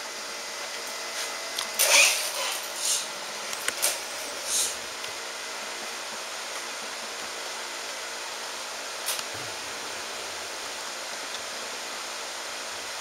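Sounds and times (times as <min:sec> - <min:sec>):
steady hiss: 0:00.6 - 0:13.0.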